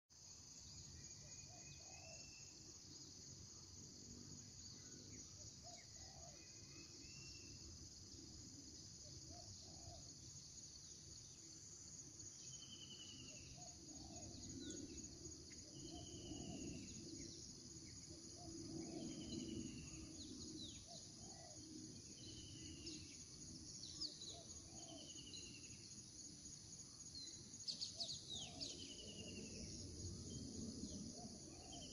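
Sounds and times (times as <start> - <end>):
high insect drone: 0.2 - 31.9.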